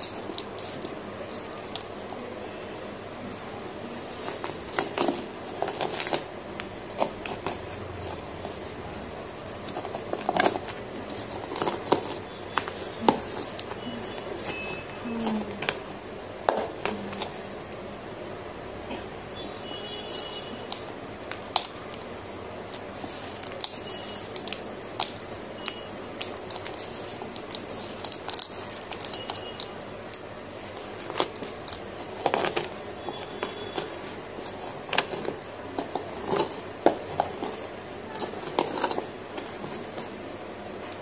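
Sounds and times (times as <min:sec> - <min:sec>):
pestle crushing and grinding pieces: 0:04.0 - 0:17.4, 0:20.6 - 0:41.0.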